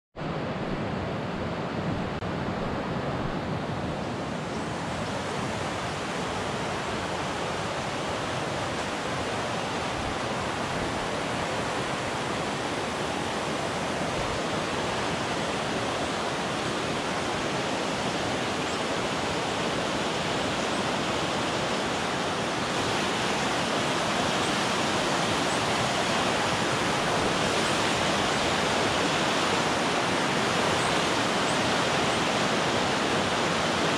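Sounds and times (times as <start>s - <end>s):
river rapids rushing: 0.2s - 33.9s.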